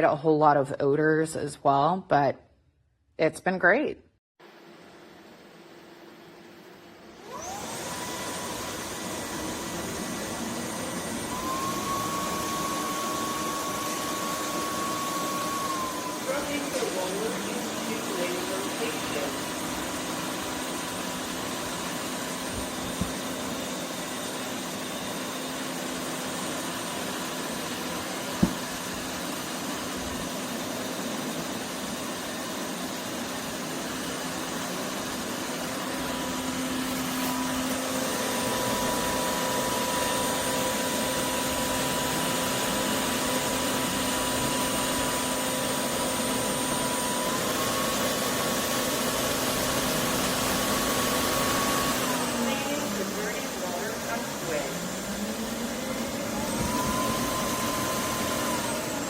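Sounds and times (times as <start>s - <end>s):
vacuum motor whine and hiss: 5.1s - 59.0s.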